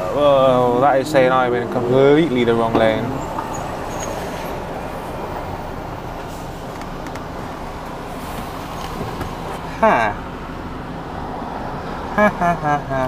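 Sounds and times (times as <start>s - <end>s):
diesel lorry engine: 0.0s - 13.0s
road noise: 0.0s - 13.0s.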